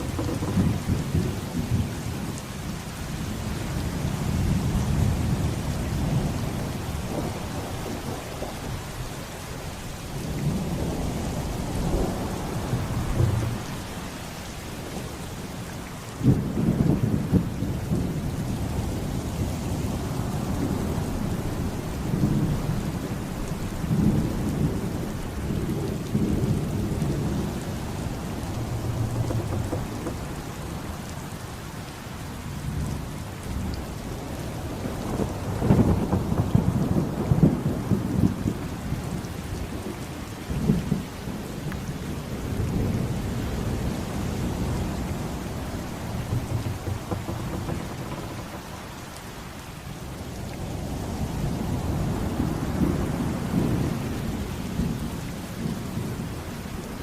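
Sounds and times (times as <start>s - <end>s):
rolling thunder: 0.0s - 2.4s, 4.1s - 15.2s, 16.2s - 31.4s, 33.6s - 39.2s, 40.5s - 56.3s
heavy rain: 0.0s - 57.0s.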